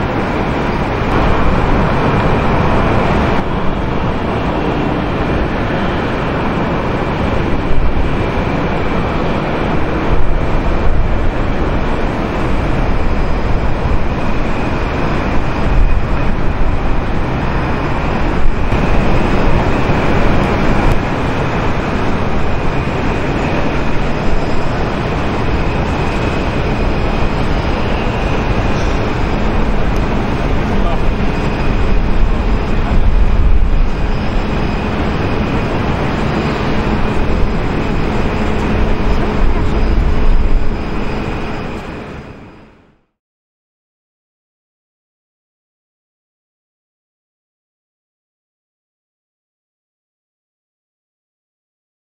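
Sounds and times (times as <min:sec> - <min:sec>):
airport roar: 0:00.0 - 0:43.1
high whine: 0:00.0 - 0:43.1.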